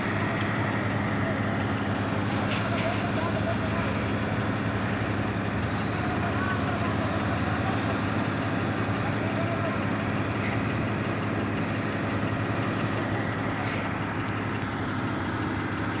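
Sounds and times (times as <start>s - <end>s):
heavy machinery engine droning: 0.0s - 16.0s.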